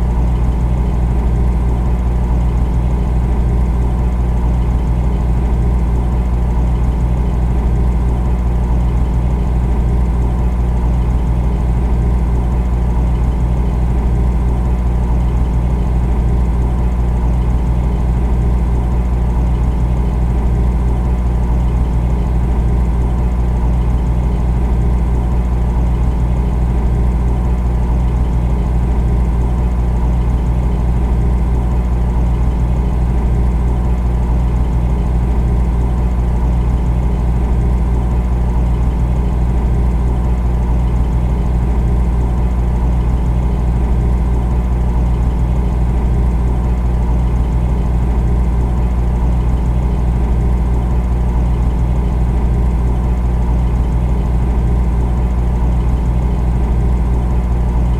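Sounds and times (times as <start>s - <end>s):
refrigerator humming: 0.0s - 57.9s.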